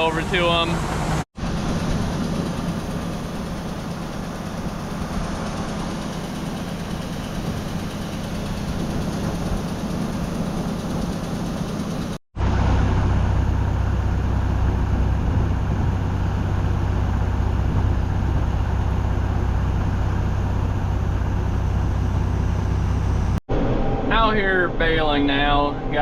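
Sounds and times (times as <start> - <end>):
engine idling: 0.0 - 23.4
heavy engine humming: 0.0 - 26.0.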